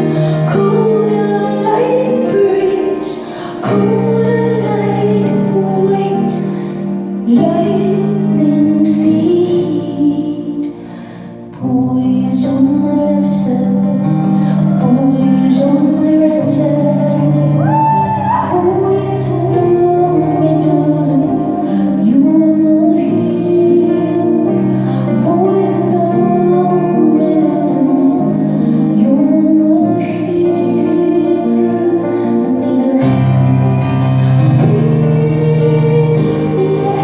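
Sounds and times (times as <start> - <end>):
woman singing: 0.0 - 37.0.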